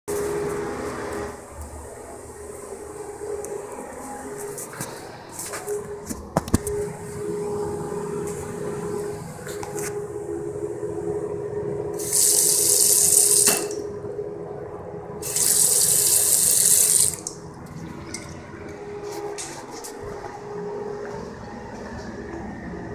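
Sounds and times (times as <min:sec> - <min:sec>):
steady hum: 0:00.1 - 0:22.9.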